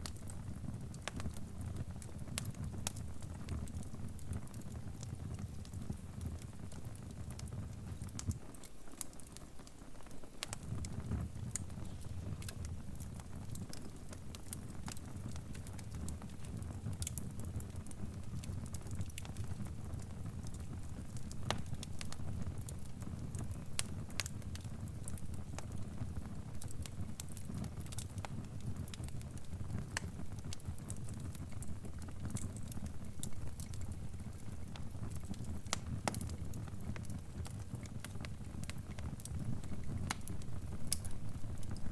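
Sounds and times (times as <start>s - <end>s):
fire crackling: 0.0s - 41.9s.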